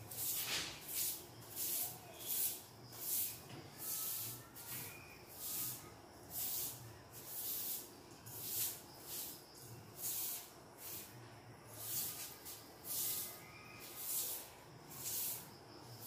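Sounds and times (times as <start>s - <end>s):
broom sweeping concrete floor: 0.0s - 16.0s.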